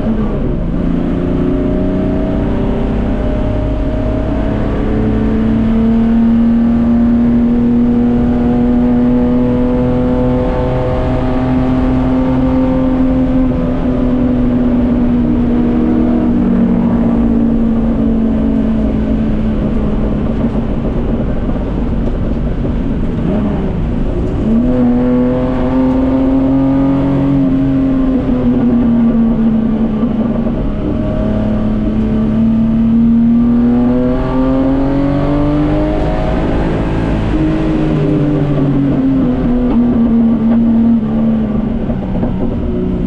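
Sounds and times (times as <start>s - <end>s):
race car engine under load: 0.0s - 43.0s
road noise: 0.0s - 43.0s.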